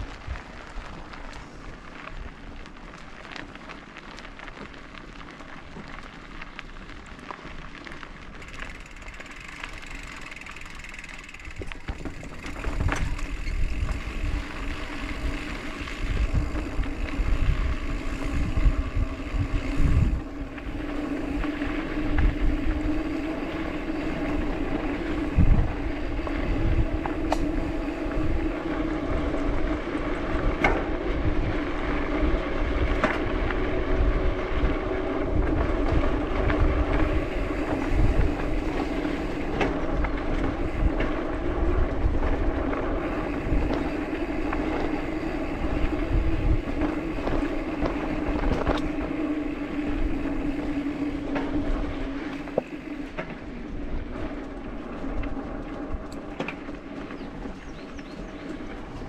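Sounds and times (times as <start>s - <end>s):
bike tyres on dirt and gravel: 0.0s - 59.0s
wind buffeting microphone: 8.4s - 59.0s.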